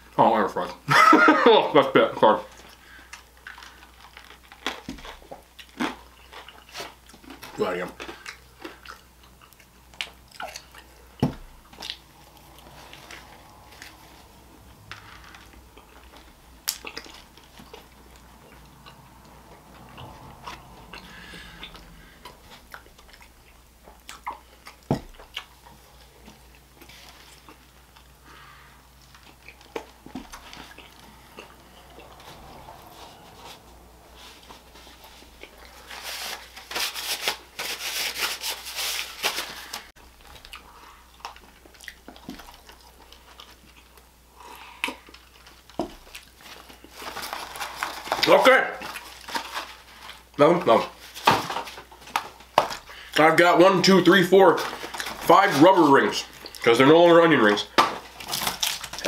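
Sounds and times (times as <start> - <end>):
chewing french fries: 0.6 - 36.6, 39.6 - 51.0, 53.9 - 59.0.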